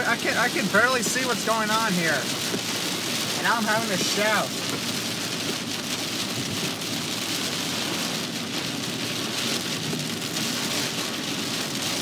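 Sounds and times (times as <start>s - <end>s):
rain pounding on a car roof: 0.0s - 12.0s.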